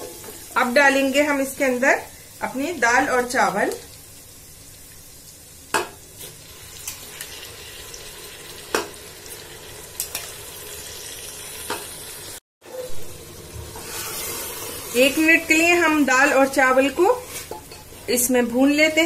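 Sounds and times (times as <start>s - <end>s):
hot oil sizzling in a pot: 0.0s - 19.0s.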